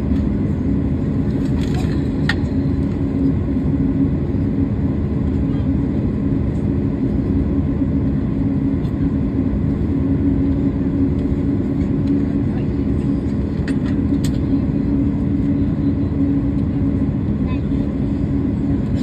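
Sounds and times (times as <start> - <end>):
airliner engines idling: 0.0 - 19.0.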